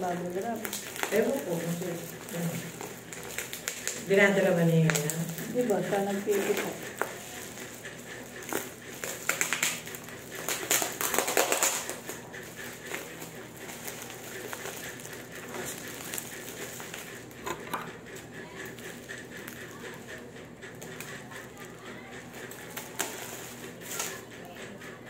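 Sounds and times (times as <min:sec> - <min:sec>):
plastic packaging crinkling: 0:00.0 - 0:24.2.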